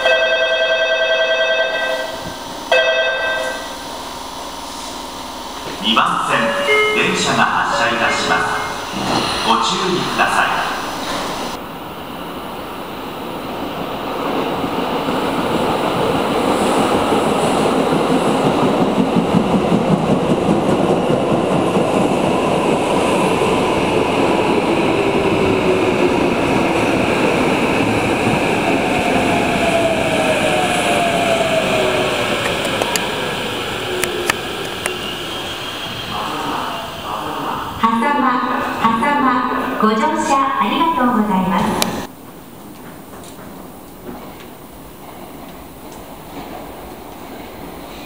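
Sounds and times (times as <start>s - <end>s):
train rumble and wheel clatter: 0.0s - 48.0s.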